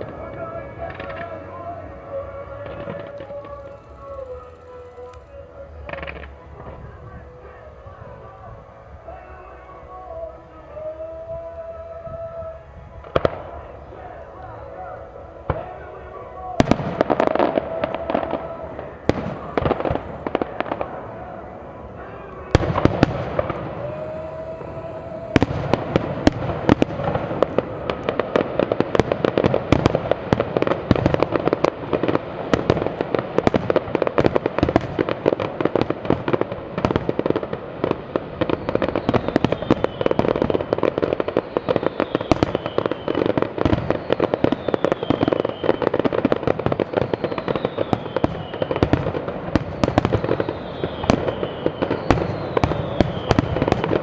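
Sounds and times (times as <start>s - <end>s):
fireworks bangs and crackling: 0.0s - 54.0s
fireworks whistles: 0.0s - 54.0s.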